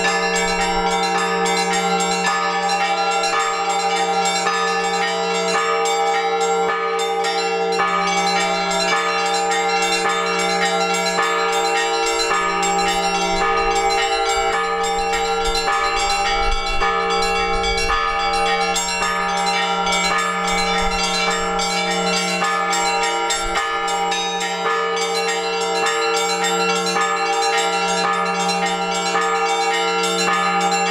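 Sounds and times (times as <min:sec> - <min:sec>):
hum of large bells: 0:00.0 - 0:30.9
small bells struck rapidly: 0:00.0 - 0:30.9.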